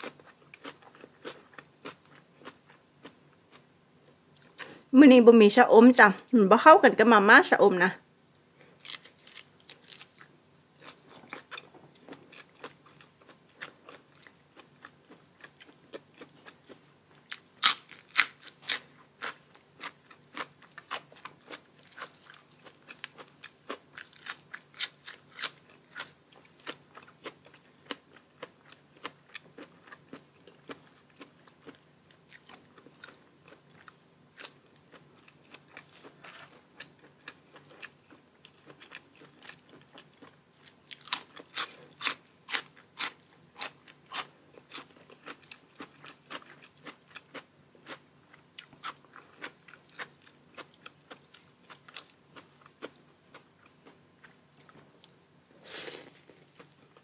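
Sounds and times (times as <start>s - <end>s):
person chewing crunchy food: 0.0s - 3.7s, 8.6s - 57.0s.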